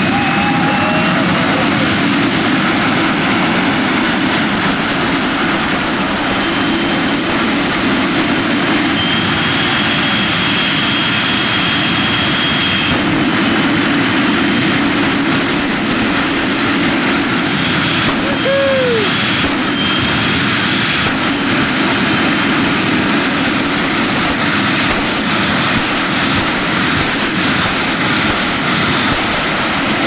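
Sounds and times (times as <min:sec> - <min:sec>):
high steady whine: 0:00.0 - 0:30.0
jet engine roaring: 0:00.0 - 0:30.0.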